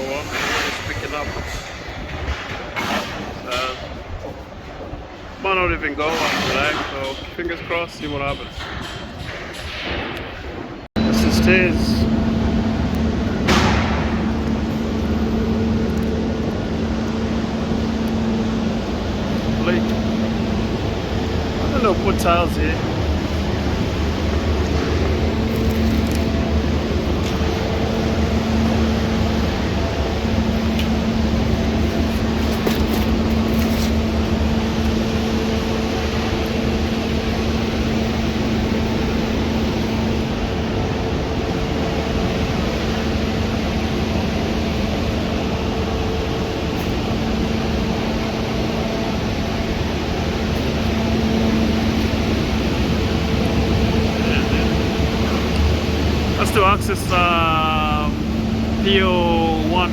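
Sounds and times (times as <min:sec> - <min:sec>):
constant low hum: 0:00.0 - 0:59.9.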